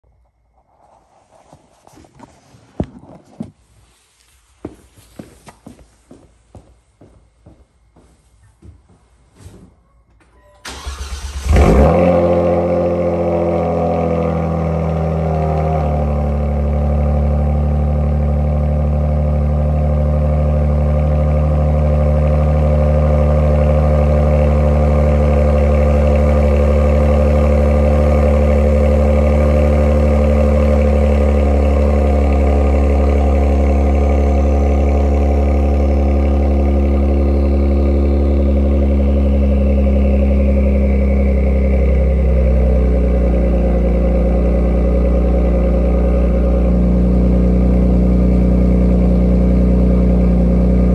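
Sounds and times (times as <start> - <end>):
car exhaust drone at idle: 10.0 - 50.9.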